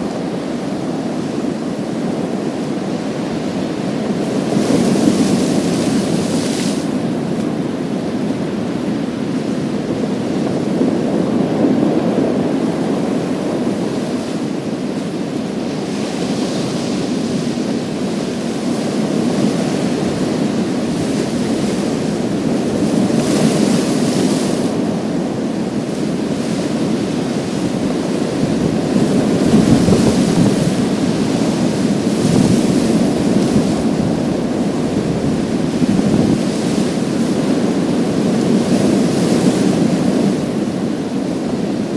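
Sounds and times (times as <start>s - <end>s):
low rush of surf: 0.0s - 41.9s.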